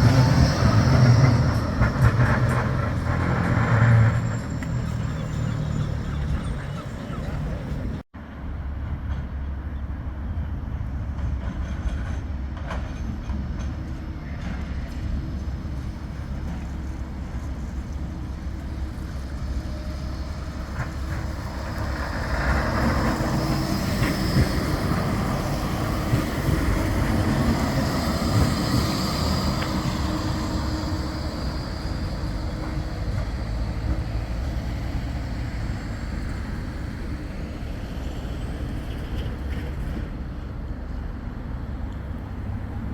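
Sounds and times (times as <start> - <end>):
tram rumbling on rails: 0.0 - 42.9.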